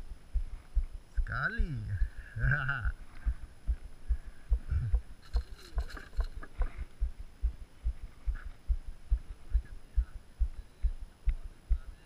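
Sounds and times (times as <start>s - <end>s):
rhythmic low thumps: 0.0s - 12.0s.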